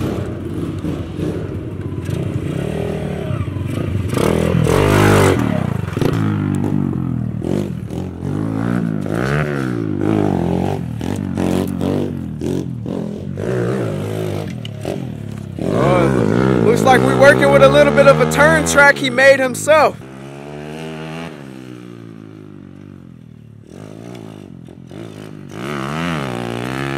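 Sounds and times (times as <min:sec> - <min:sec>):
small motorcycle engine revving: 0:00.0 - 0:26.9.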